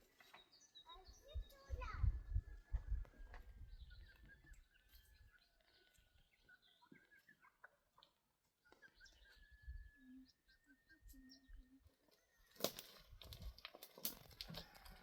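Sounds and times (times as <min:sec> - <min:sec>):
faint bird chirps: 0:00.0 - 0:12.8.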